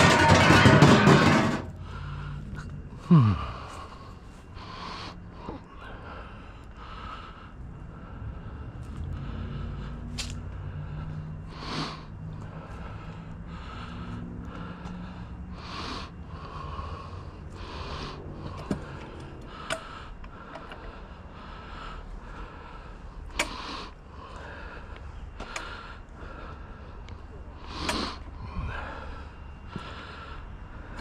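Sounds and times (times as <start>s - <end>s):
person breathing heavily: 0.0s - 31.0s
steady low rumble: 0.0s - 31.0s.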